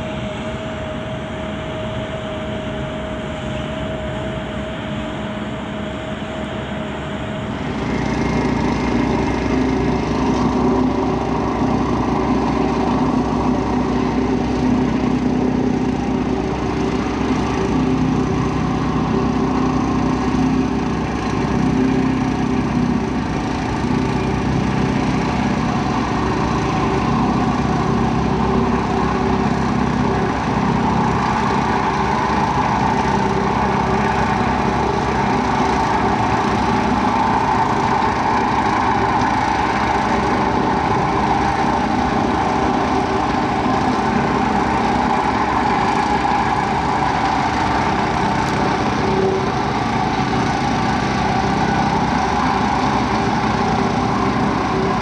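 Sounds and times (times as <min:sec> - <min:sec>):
excavator diesel engine running: 0:00.0 - 0:55.0
site noise hum: 0:00.0 - 0:55.0
thin steady whine: 0:00.0 - 0:55.0.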